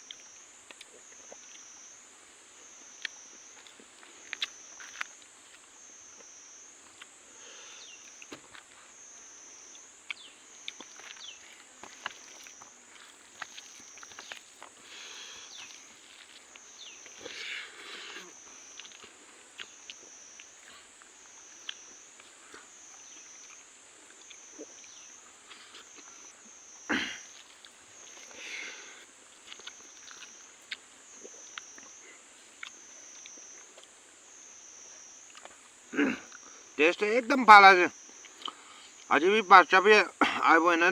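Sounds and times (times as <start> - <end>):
chewing and crunching food: 0.0 - 36.8, 38.0 - 39.1
insect chorus: 0.0 - 40.9.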